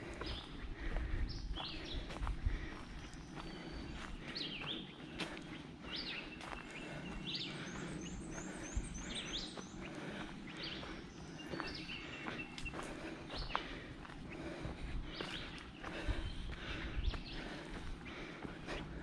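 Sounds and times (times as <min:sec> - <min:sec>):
footsteps crunching on trail: 0:00.0 - 0:19.0
songbirds singing: 0:00.0 - 0:19.0.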